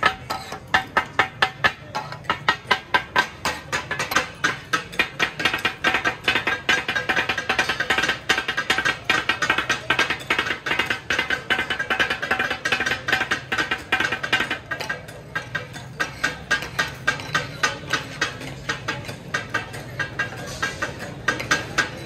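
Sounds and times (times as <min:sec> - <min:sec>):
steel blades striking griddle: 0:00.0 - 0:22.0.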